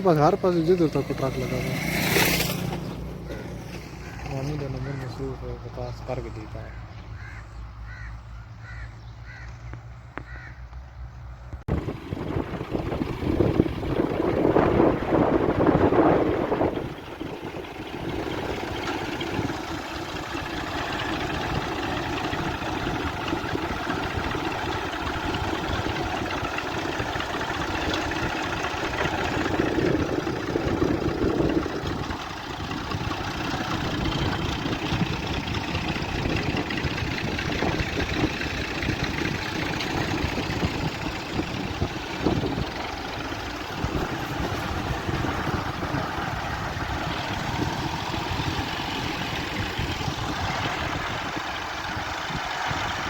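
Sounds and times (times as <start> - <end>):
vehicle engine low pulsing: 0.0 - 53.0.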